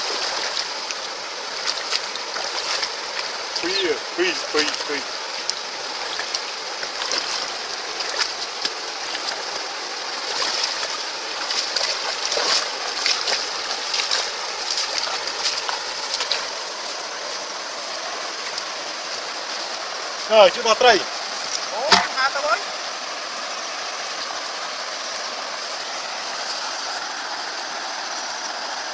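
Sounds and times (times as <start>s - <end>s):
stream water flowing with splashes: 0.0s - 28.9s.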